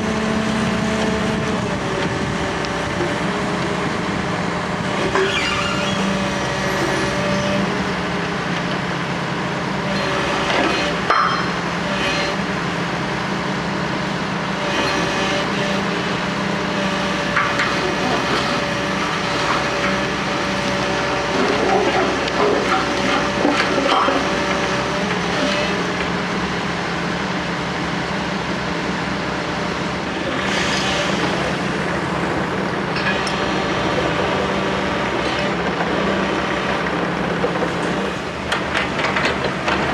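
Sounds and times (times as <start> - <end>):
construction machinery diesel engines: 0.0 - 39.9.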